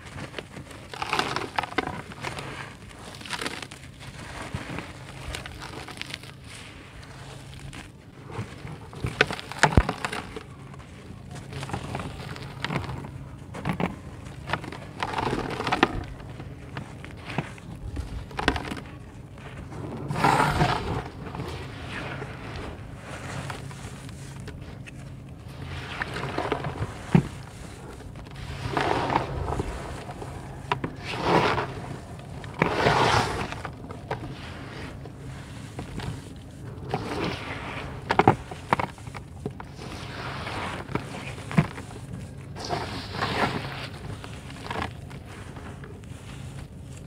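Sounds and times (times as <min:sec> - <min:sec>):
hands squelching wet dirt: 0:00.0 - 0:47.0.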